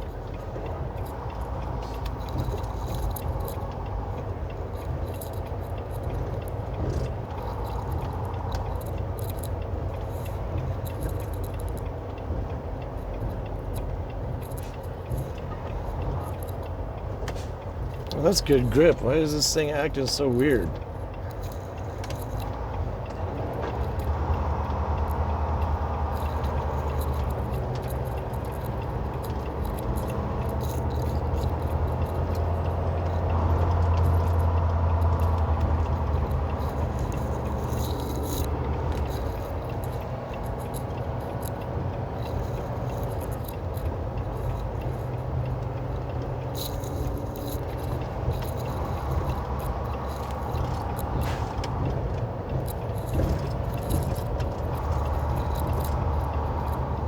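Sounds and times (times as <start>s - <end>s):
truck diesel engine drone: 0.0s - 57.0s.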